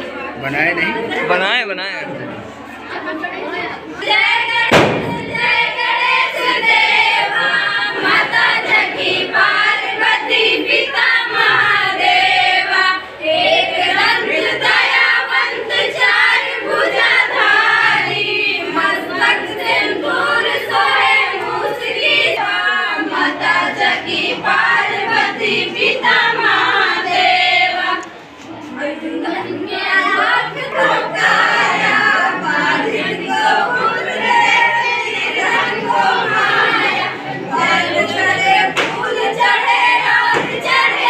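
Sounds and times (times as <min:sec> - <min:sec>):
girls singing in chorus: 0:03.9 - 0:41.0.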